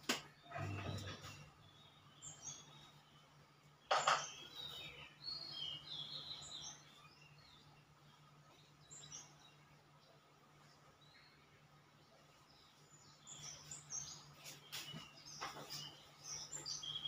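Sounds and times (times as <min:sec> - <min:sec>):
low steady hum: 0:00.0 - 0:14.4
small birds chirping: 0:00.0 - 0:17.0.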